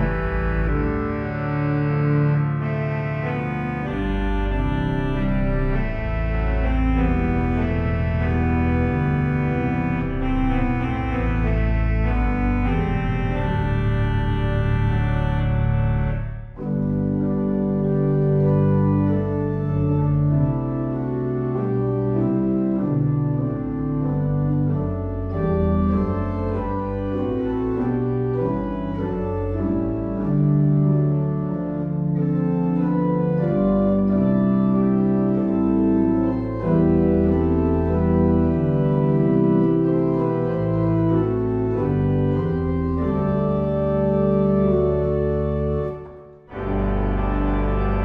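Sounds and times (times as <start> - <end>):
church organ playing hymn: 0.0 - 48.0.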